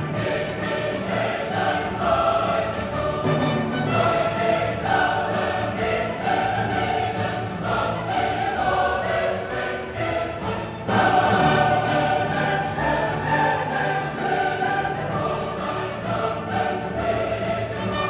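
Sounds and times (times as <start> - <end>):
choir singing: 0.0 - 18.0
orchestral accompaniment: 0.0 - 18.0.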